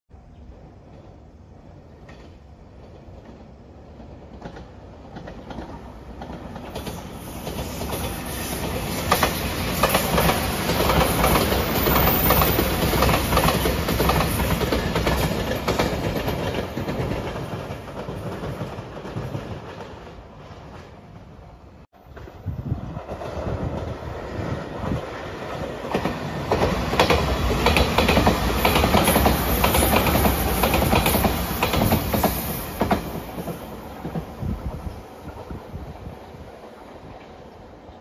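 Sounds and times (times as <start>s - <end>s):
train passing at speed: 0.1s - 38.0s.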